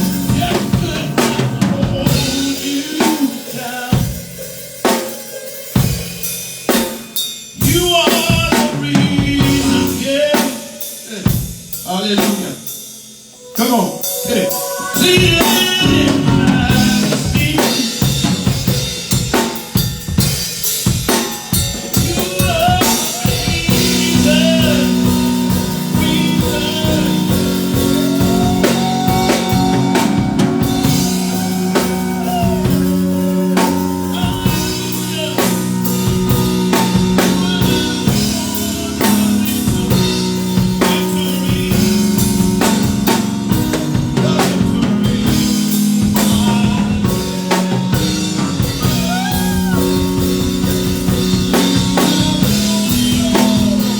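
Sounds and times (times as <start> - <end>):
drum kit playing a beat: 0.0 - 53.9.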